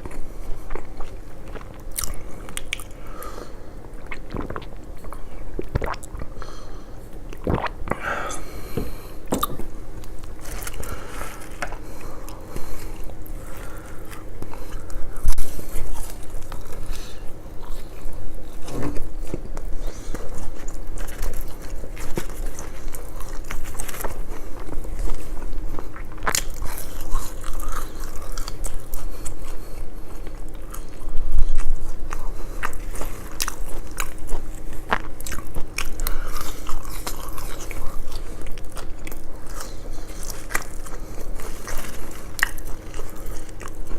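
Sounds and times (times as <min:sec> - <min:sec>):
crunching bites and chewing: 0:00.0 - 0:03.0, 0:03.8 - 0:06.4, 0:08.8 - 0:43.9.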